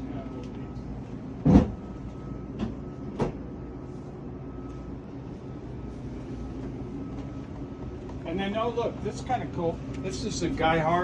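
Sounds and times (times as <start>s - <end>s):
machinery hum: 0.0s - 11.0s.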